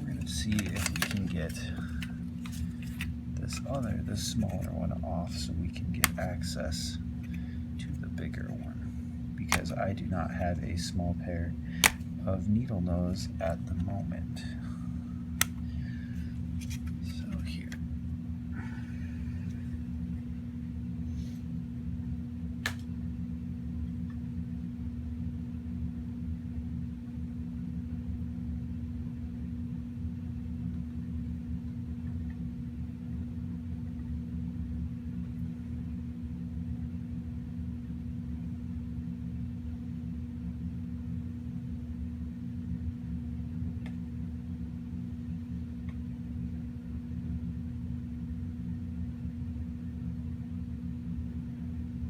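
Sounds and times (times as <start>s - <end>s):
low mechanical hum: 0.0s - 52.0s.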